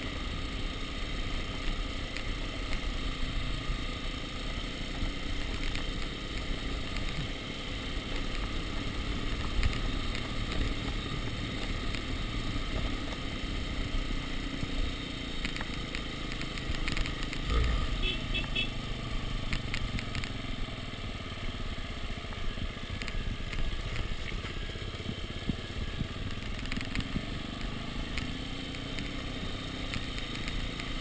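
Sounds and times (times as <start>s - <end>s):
dirt bike engine running: 0.0s - 31.0s.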